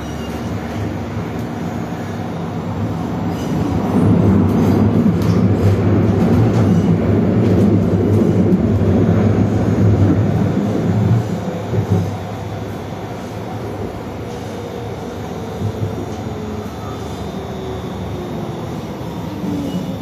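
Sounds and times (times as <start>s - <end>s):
tram wheel-on-rail rumble: 0.0s - 20.0s.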